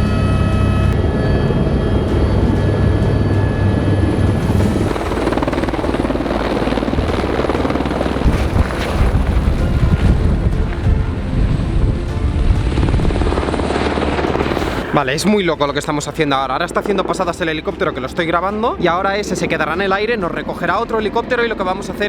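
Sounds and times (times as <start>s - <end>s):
helicopter rotor and turbine: 0.0s - 22.0s.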